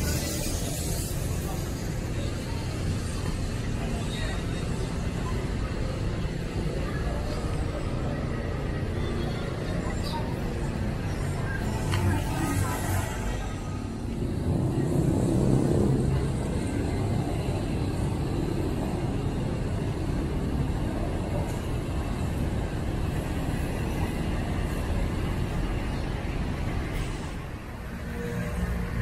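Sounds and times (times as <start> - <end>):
city traffic noise: 0.0 - 29.0.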